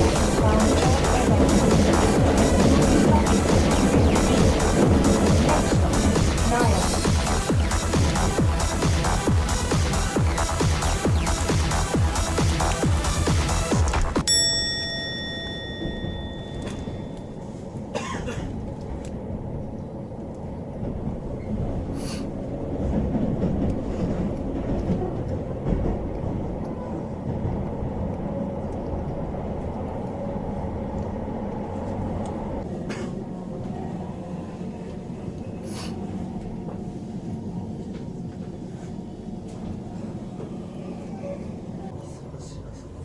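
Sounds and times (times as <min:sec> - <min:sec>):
train rumbling: 0:00.0 - 0:43.0.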